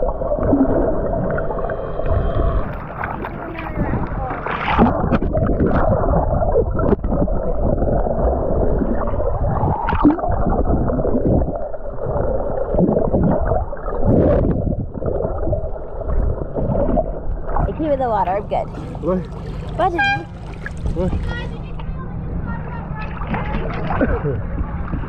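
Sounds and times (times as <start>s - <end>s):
muffled underwater water rush: 0.0s - 25.0s.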